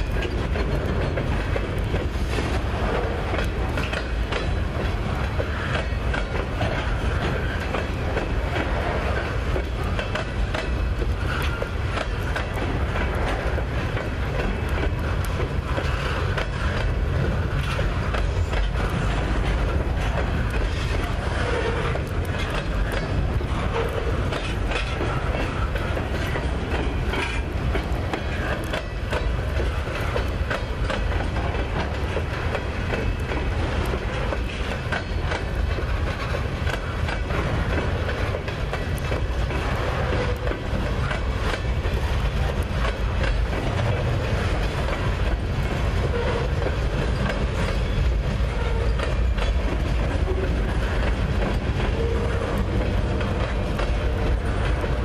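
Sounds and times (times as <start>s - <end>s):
freight train rumbling: 0.0s - 55.0s
steel wheels clicking over rails: 0.0s - 55.0s.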